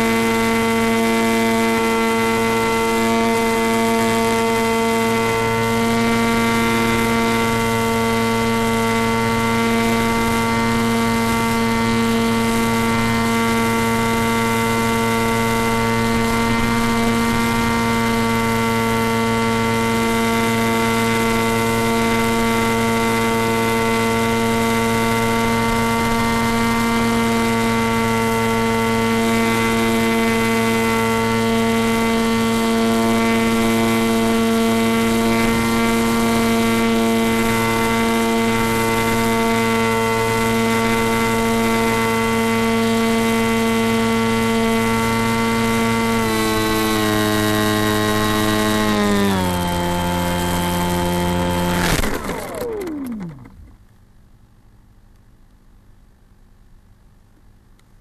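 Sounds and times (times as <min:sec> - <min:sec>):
rc plane motor and propeller drone: 0:00.0 - 0:53.8.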